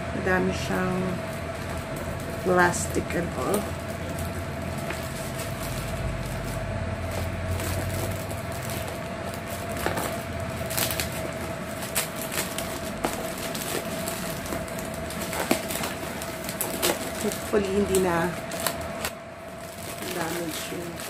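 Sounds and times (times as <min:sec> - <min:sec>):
faint hum: 0:00.0 - 0:21.0
plastic crinkling and crackling: 0:00.3 - 0:21.0
scissors cutting plastic pouch: 0:00.7 - 0:21.0.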